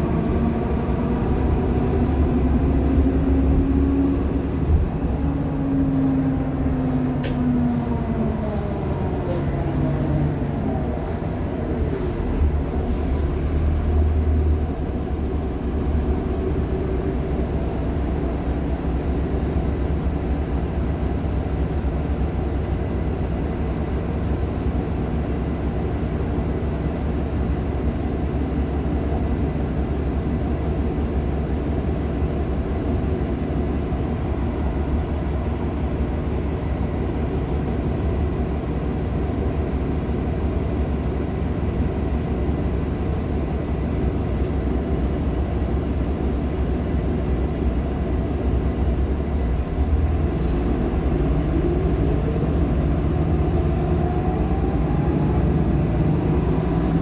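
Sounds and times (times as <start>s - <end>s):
bus diesel engine rumbling: 0.0s - 57.0s.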